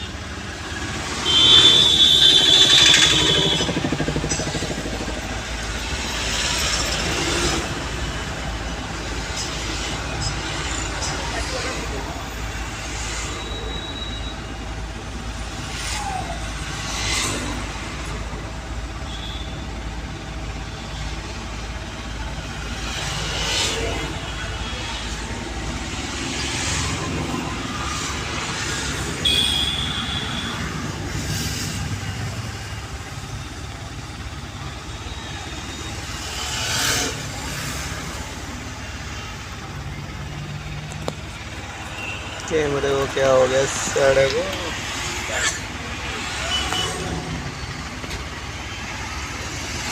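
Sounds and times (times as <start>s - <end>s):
diesel engine idling: 0.0s - 15.7s, 17.6s - 49.9s
passing traffic: 0.0s - 49.9s.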